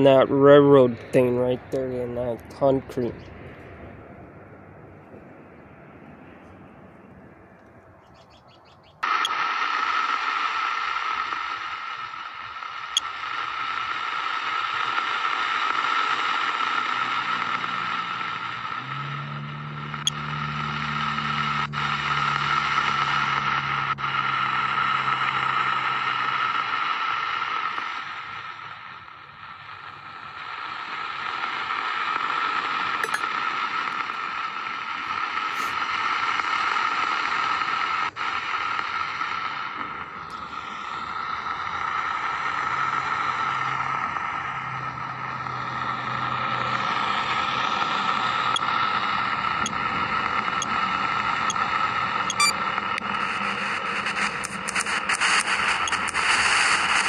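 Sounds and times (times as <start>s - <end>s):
radio static hiss: 0.0s - 3.8s, 9.0s - 57.0s.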